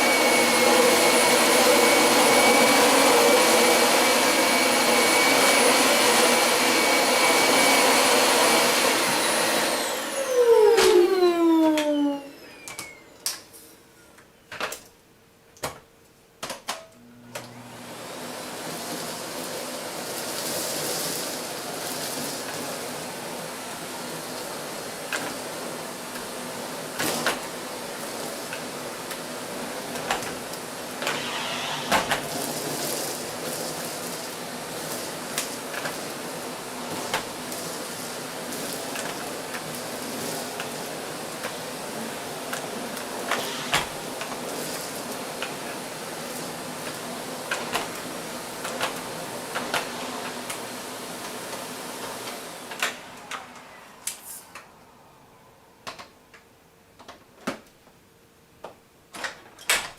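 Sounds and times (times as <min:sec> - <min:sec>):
vacuum cleaner motor humming: 0:00.0 - 0:13.2, 0:17.0 - 0:54.8.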